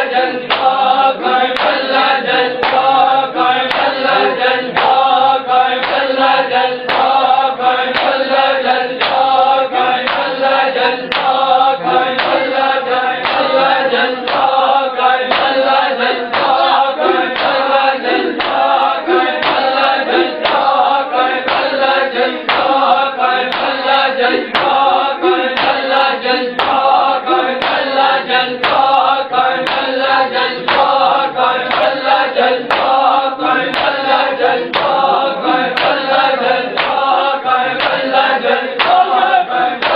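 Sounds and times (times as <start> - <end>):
group chanting: 0.0 - 39.9
rhythmic chest-beating slaps: 0.0 - 39.9.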